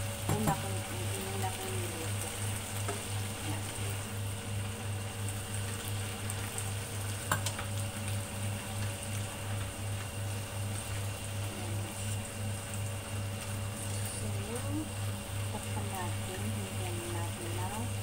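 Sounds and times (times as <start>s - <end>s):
cooktop low pulsing hum: 0.0s - 18.0s
vegetables sizzling in a pan: 0.0s - 18.0s.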